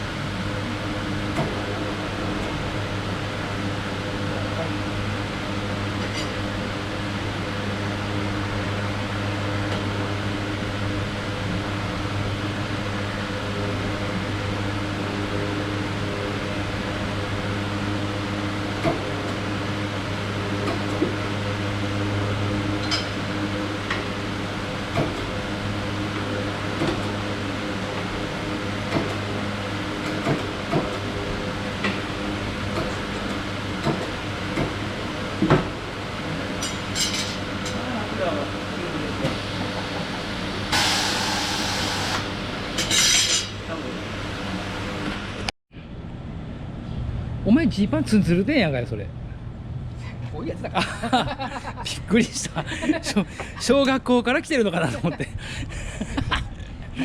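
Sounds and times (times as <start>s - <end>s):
machine humming: 0.0s - 47.4s.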